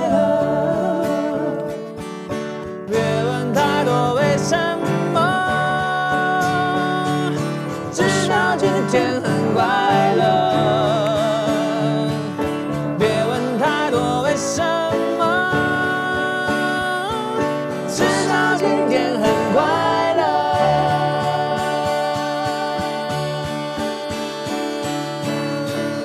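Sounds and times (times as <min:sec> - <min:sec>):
men singing in chorus: 0:00.0 - 0:01.7, 0:02.9 - 0:26.0
solo singing voice: 0:00.0 - 0:02.0, 0:02.9 - 0:26.0
strummed acoustic guitar: 0:00.0 - 0:26.0.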